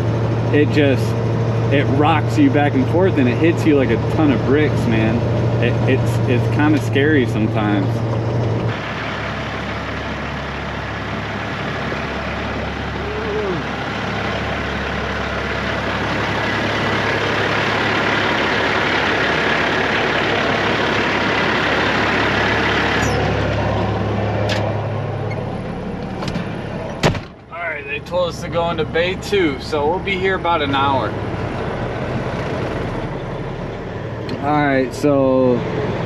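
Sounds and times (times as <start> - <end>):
road noise: 0.0 - 36.0
truck diesel engine humming: 0.0 - 36.0.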